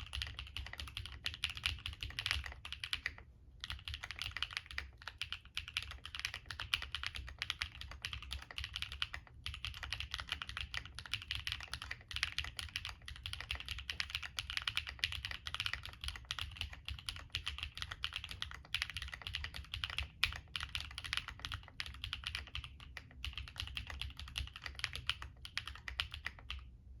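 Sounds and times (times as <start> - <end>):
typing on mechanical keyboard: 0.0 - 26.7.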